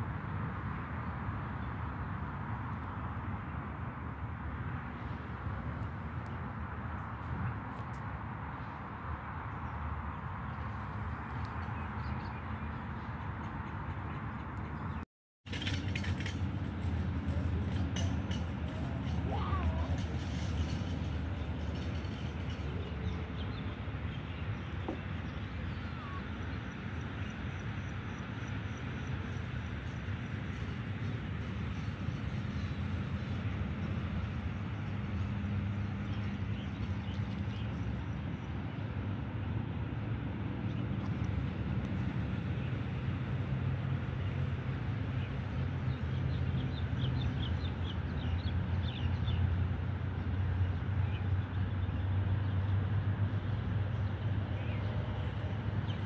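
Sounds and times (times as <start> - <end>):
distant road traffic: 0.0 - 56.0
low outdoor background rumble: 0.0 - 56.0.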